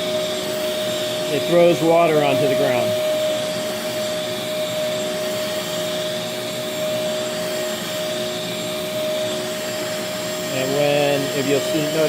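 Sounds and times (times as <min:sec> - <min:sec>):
carpet cleaner motor whine: 0:00.0 - 0:12.0.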